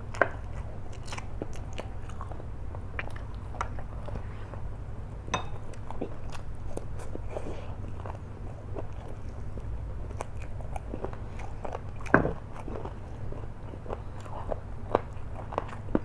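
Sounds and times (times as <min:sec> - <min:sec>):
person chewing noodles: 0:00.0 - 0:16.0.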